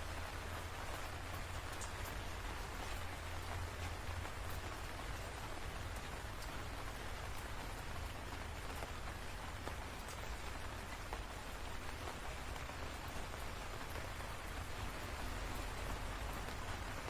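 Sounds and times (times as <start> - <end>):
faint raindrops ticking: 0.0 - 17.0
steady rain hiss: 0.0 - 17.0.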